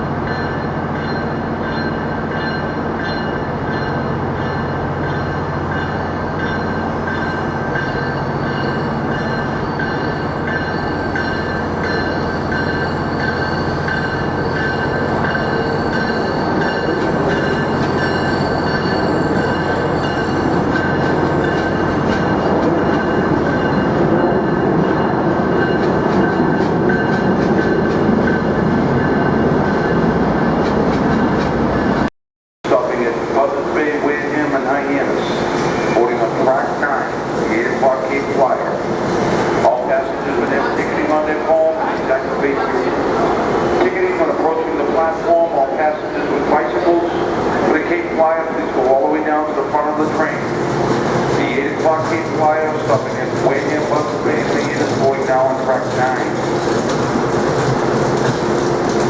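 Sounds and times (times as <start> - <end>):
train machinery running: 0.0 - 32.1, 32.7 - 59.0.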